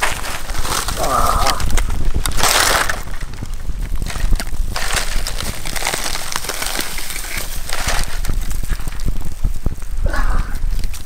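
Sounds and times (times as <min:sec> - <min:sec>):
leaves rustling and crackling: 0:00.0 - 0:11.0.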